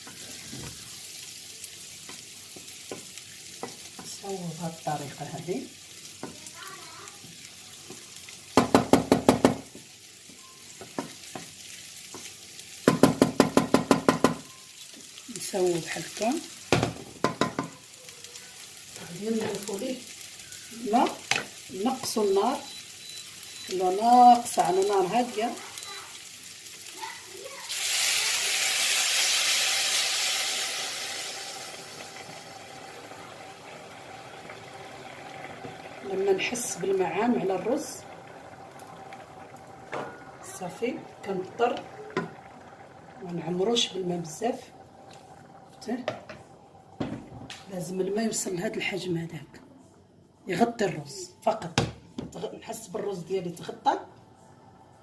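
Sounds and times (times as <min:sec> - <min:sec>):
water hissing in a hot pot: 0:00.0 - 0:48.7.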